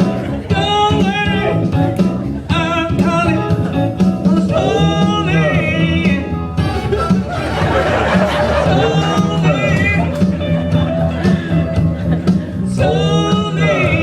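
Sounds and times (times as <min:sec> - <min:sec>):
person singing: 0:00.0 - 0:07.3, 0:08.2 - 0:11.7, 0:12.5 - 0:14.0
band playing with steady beat: 0:00.0 - 0:14.0.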